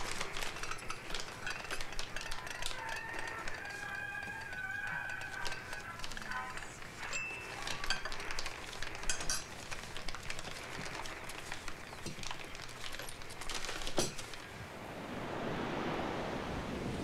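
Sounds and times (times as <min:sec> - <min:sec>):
cups and cutlery clinking: 0:00.0 - 0:14.4.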